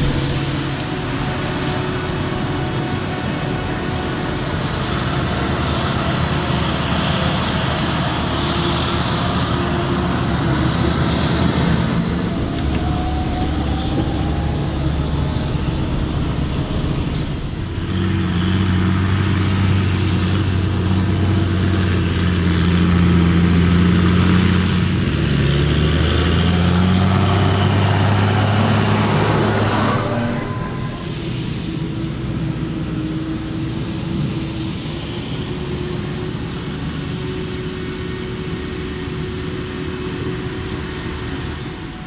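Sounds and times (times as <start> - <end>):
tractor engine drone: 0.0 - 42.0.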